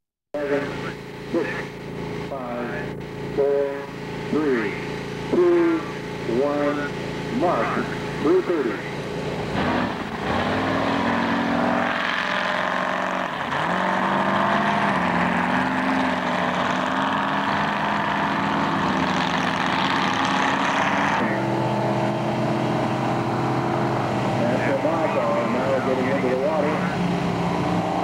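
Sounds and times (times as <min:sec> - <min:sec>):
race boat engines accelerating: 0:00.4 - 0:28.0.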